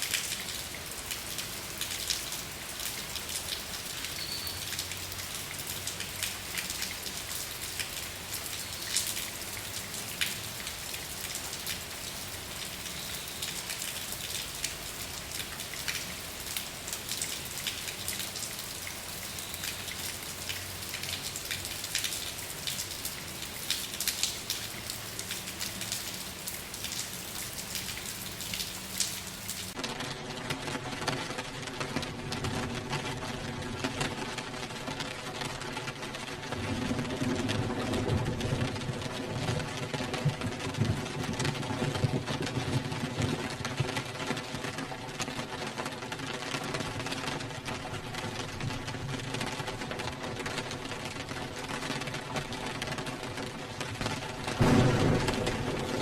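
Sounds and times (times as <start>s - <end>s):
rain drops pattering on a surface: 0.0s - 56.0s.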